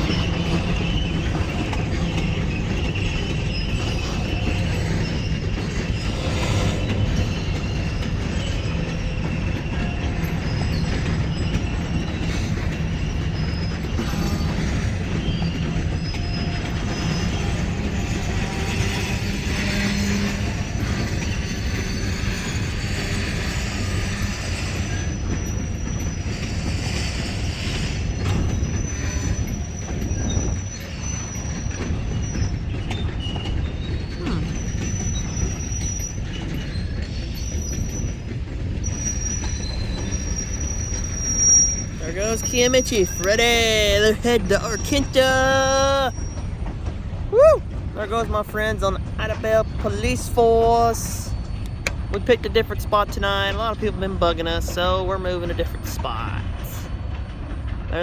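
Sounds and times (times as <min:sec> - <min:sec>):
high wheel squeals: 0:00.0 - 0:53.7
wheels rumbling on rails: 0:00.0 - 0:58.0.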